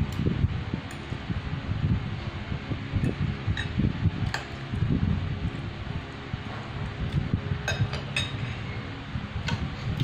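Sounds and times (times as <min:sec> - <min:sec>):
electric fan rumble: 0:00.0 - 0:10.0.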